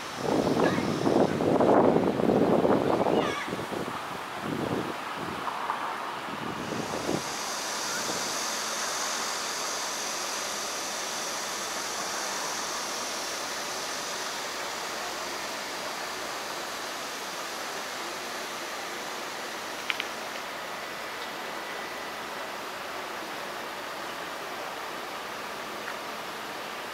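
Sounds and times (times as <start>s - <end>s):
high hiss: 0.0s - 26.9s
rushing city ambience: 0.0s - 26.9s.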